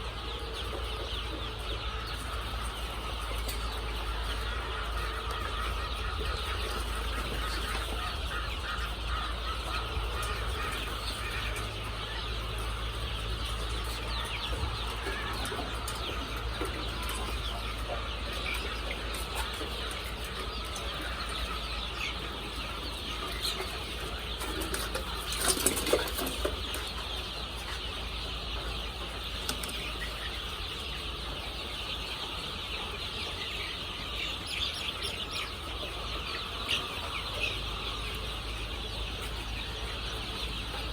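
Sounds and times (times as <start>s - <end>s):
chickens peeping and clucking: 0.0s - 40.9s.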